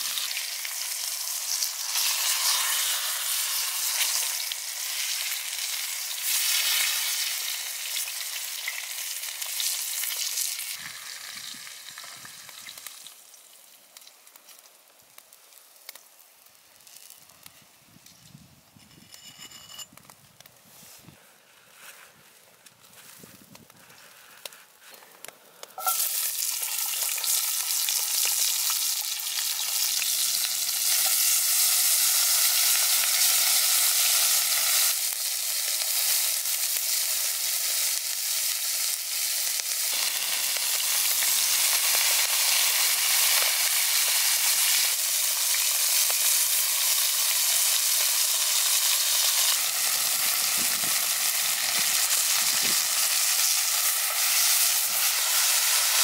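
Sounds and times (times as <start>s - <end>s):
vegetables sizzling in a skillet: 0.0s - 18.0s, 25.8s - 56.0s.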